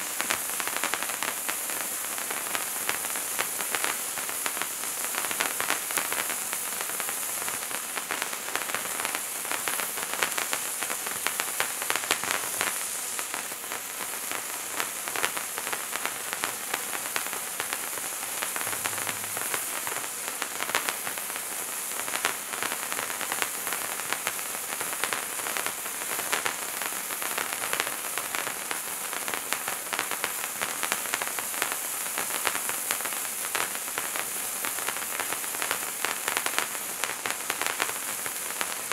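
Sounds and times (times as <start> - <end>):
firework fountain hissing: 0.0 - 38.9
sparks crackling: 0.0 - 38.9.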